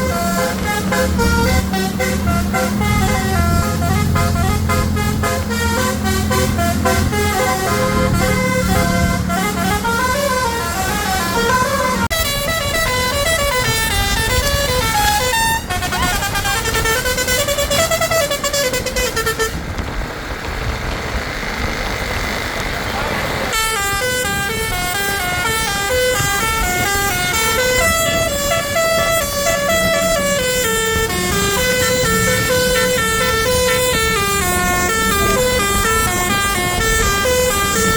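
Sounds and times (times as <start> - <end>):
bus musical horn tune: 0.0 - 19.9, 23.5 - 37.9
bus engine running: 0.0 - 37.9
road noise: 0.0 - 37.9.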